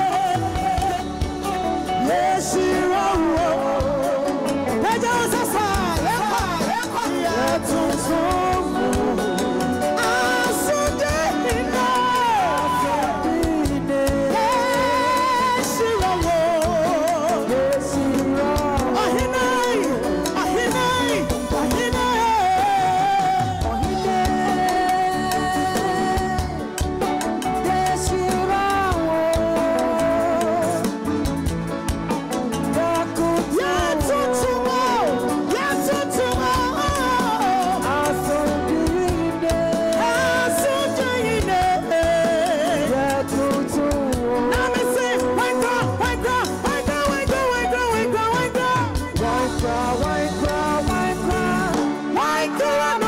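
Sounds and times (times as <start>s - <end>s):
band playing gospel music: 0.0s - 53.0s
bass guitar: 0.0s - 53.0s
drum kit: 0.0s - 53.0s
hand drums: 0.0s - 53.0s
keyboard: 0.0s - 53.0s
person singing with vibrato: 0.0s - 53.0s.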